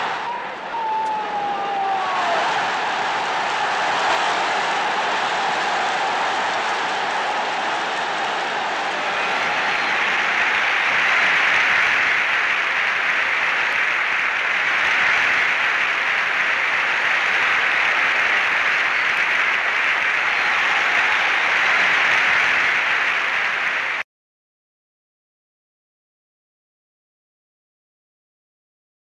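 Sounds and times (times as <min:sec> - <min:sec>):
crowd applauding: 0:00.0 - 0:24.0.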